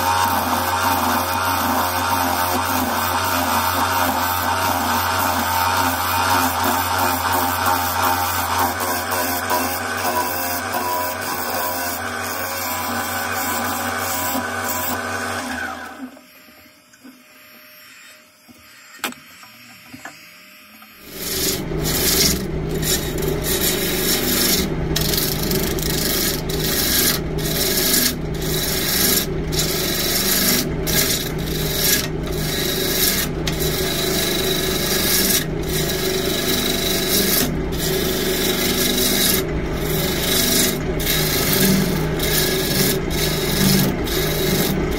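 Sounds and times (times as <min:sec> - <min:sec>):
turning tool scraping wood: 0:00.0 - 0:44.9
wood lathe humming: 0:00.0 - 0:44.9.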